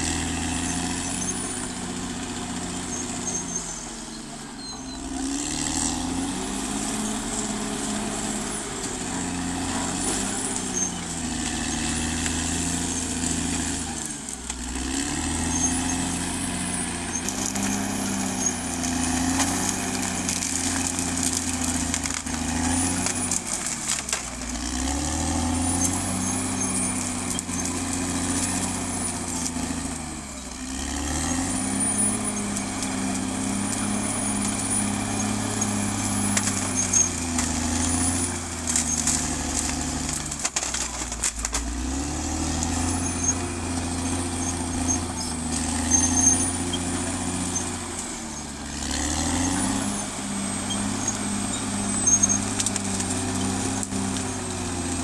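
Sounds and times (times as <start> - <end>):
bulldozer diesel engine under load: 0.0 - 55.0
high engine whine: 0.0 - 55.0.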